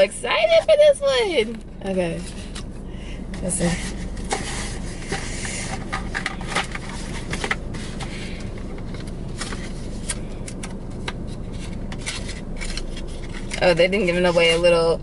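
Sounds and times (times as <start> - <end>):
low car interior rumble: 0.0 - 15.0.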